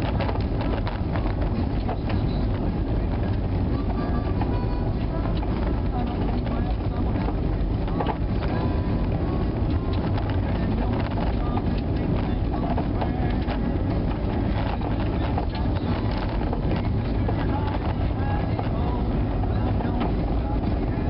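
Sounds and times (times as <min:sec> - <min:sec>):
car road and engine noise: 0:00.0 - 0:21.0
small clicks and ticks: 0:00.0 - 0:21.0.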